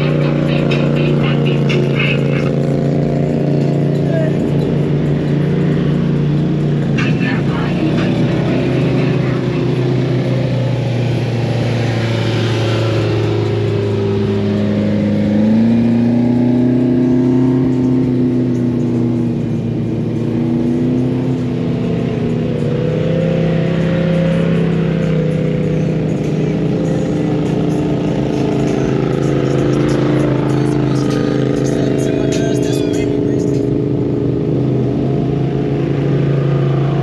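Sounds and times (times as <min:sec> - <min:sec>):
utility vehicle engines passing: 0:00.0 - 0:37.0.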